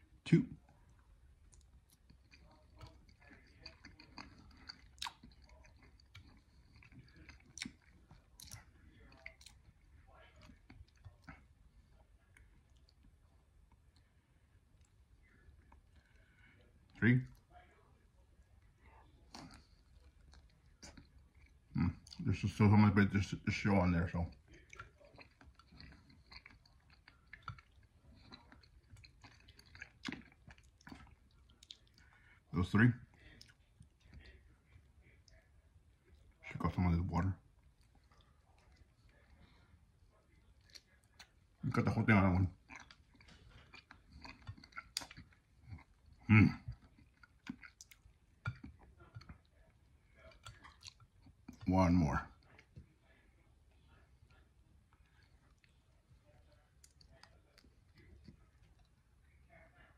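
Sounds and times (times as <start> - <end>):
faint chewing: 0.0 - 59.9.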